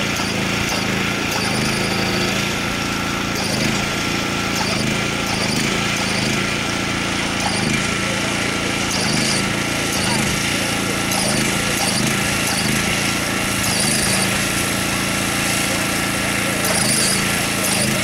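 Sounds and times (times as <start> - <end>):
machine motor running: 0.0 - 18.0.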